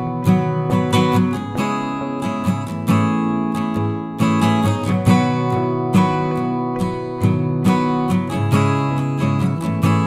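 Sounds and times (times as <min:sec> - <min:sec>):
acoustic guitar picking: 0:00.0 - 0:10.0.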